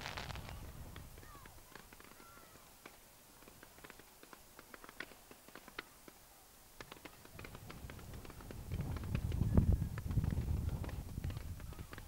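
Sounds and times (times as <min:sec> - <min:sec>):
fireworks crackling pops: 0:00.0 - 0:12.0
low rumble of fireworks: 0:00.0 - 0:12.0.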